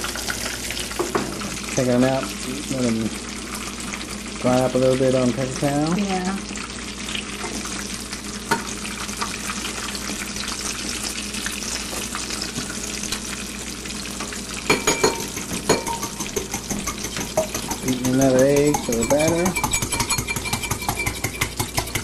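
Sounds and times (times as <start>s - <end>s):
frying in hot oil sizzling: 0.0s - 22.0s.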